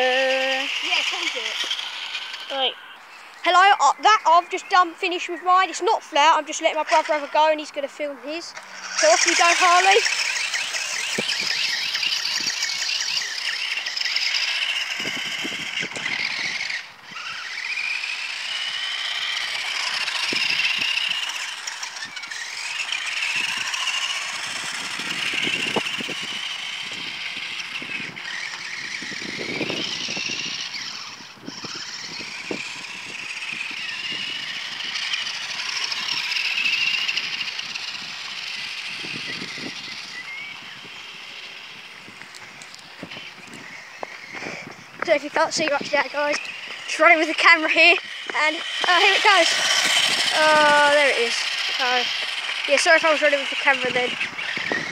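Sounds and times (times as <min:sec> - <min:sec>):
toy car motor whining: 0:00.0 - 0:54.9.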